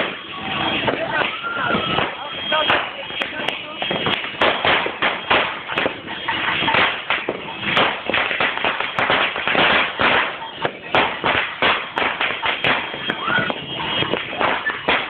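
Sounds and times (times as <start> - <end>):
firecrackers cracking and popping: 0.0 - 15.0.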